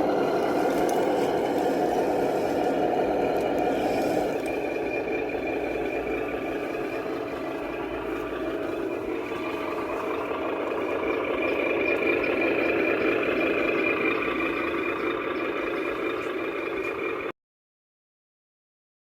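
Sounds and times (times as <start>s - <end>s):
remote-control truck whine: 0.0s - 17.4s.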